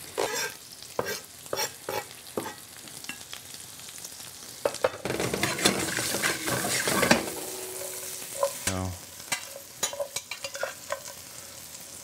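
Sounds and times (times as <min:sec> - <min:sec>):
carrots sizzling in oil: 0:00.0 - 0:12.0.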